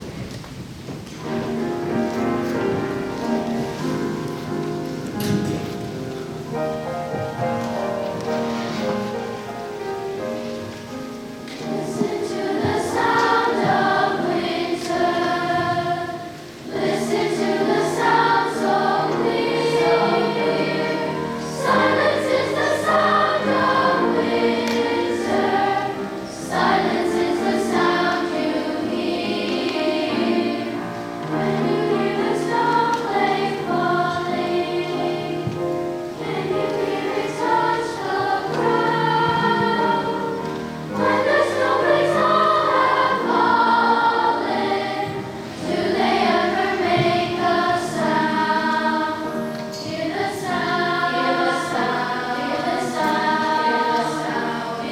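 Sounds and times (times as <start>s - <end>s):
children's chorus singing: 1.1s - 54.9s.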